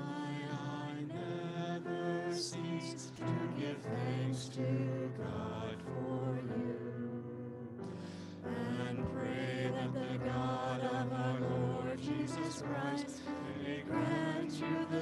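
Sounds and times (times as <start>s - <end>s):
grand piano: 0.0s - 15.0s
vocal trio singing a hymn: 0.0s - 15.0s.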